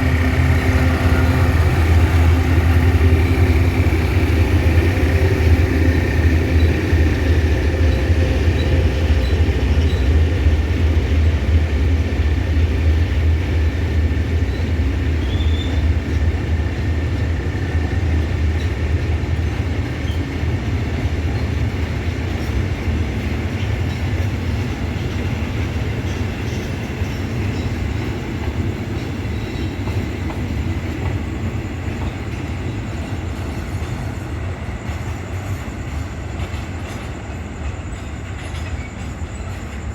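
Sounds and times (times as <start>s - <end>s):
diesel locomotive engine: 0.0s - 39.9s
freight train rumbling past: 0.0s - 39.9s.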